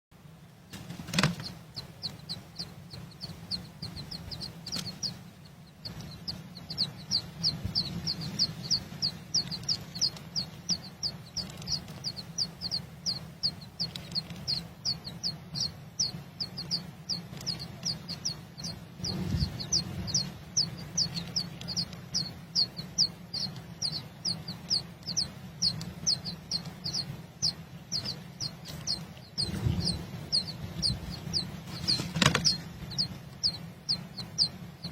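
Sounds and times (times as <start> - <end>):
steady low rumble: 0.4 - 34.9.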